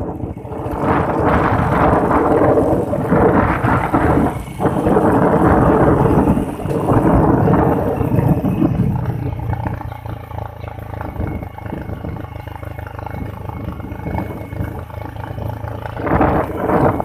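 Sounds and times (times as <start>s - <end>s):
motorcycle engine drone: 0.0s - 17.0s
wind buffeting microphone: 0.0s - 17.0s.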